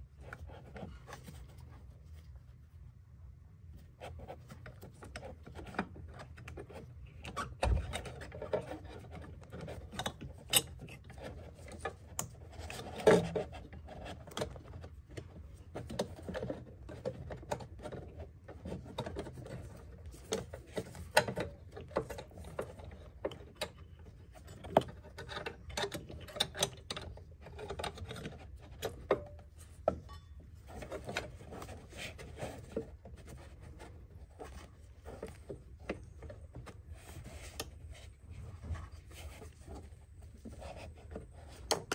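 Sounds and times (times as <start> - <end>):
clicks taps and rubbing of parts: 3.8 - 41.9.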